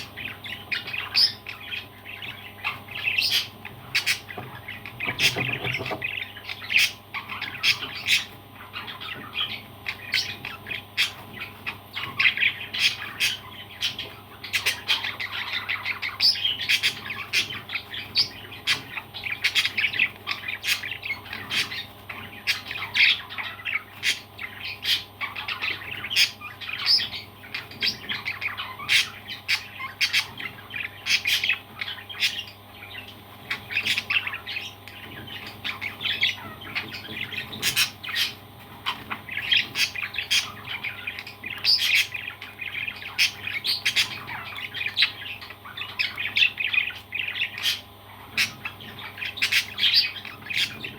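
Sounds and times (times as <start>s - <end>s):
parrots squawking and chirping: 0.0s - 50.9s.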